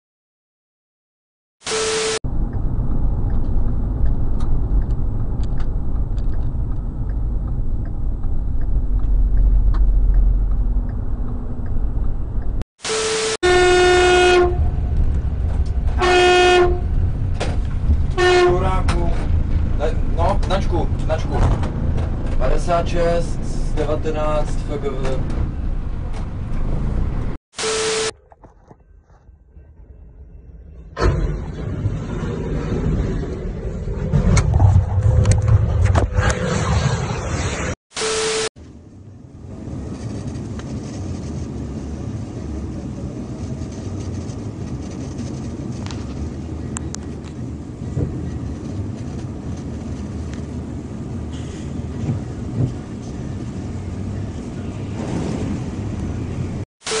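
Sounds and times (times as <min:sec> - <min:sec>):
vehicle and road rumble: 0:02.1 - 0:27.4, 0:28.0 - 0:57.0.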